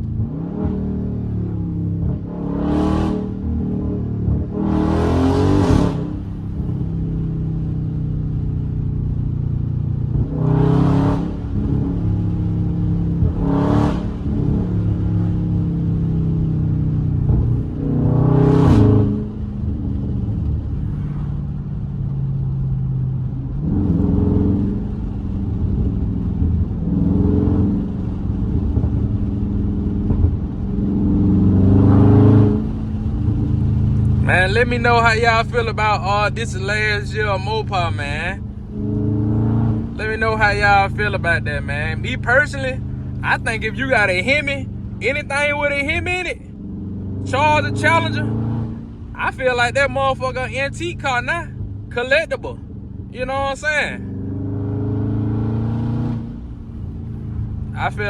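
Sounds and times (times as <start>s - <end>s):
car engine accelerating hard: 0.0s - 58.0s
car engine running steadily: 0.0s - 58.0s.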